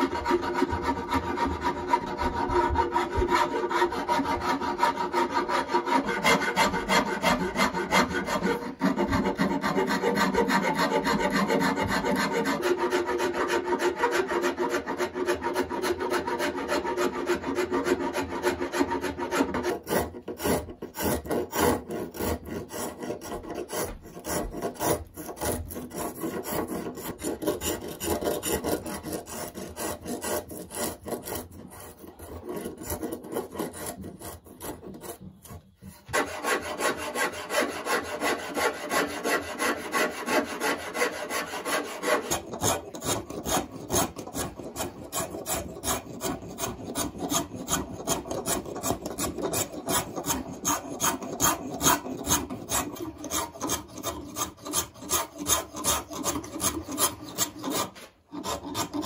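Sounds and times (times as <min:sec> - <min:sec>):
spokeshave scraping wood: 0:00.0 - 0:59.0.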